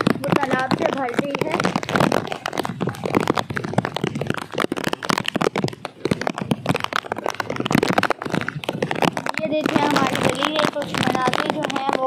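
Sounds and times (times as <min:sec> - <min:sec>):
rain patter: 0:00.0 - 0:12.0.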